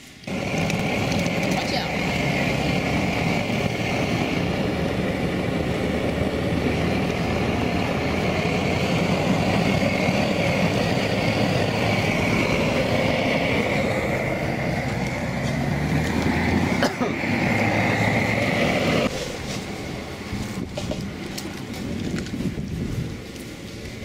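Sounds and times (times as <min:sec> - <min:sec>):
propane burner rushing: 0:00.0 - 0:24.0.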